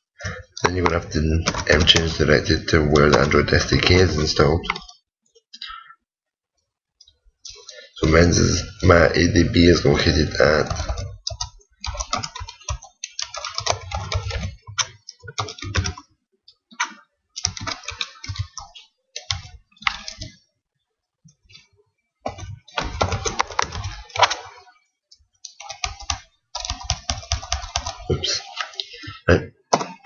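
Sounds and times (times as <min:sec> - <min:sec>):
computer keyboard typing: 0:00.2 - 0:05.0, 0:08.1 - 0:20.4, 0:21.3 - 0:29.2.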